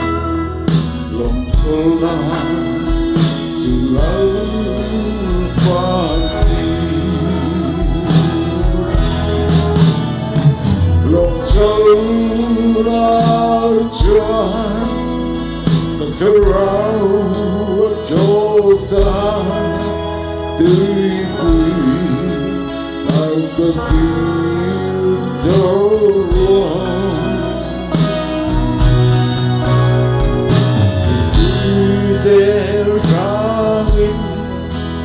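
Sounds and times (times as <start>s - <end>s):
man singing into a microphone: 0.0s - 28.9s, 30.5s - 35.0s
amplified live band: 0.0s - 35.0s.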